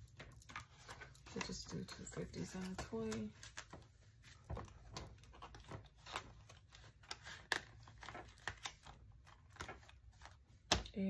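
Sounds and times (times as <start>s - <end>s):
banknotes and envelope rustling: 0.0s - 10.8s.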